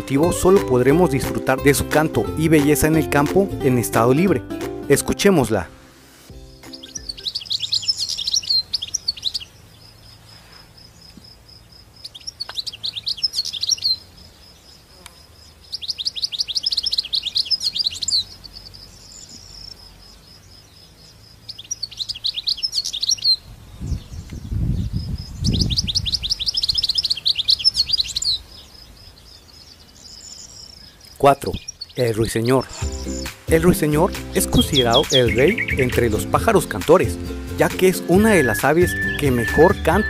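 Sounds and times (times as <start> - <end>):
bird singing twittering notes: 6.3 - 40.0.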